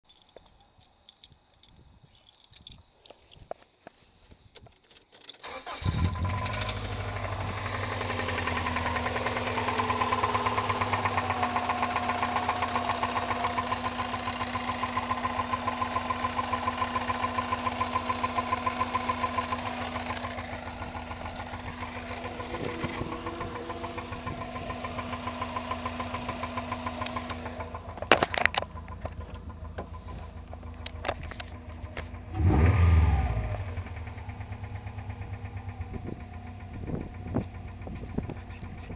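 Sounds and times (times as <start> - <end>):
engine knocking rhythmically: 7.1 - 38.9.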